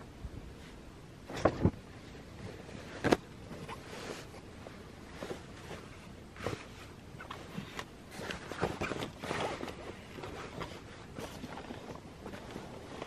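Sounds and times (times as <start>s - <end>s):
fabric rustling: 0.5s - 13.0s.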